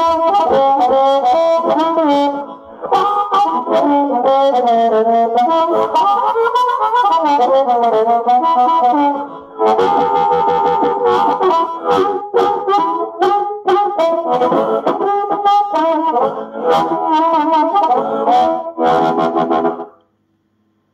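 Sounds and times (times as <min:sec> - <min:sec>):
amplified blues harmonica: 0:00.0 - 0:20.0.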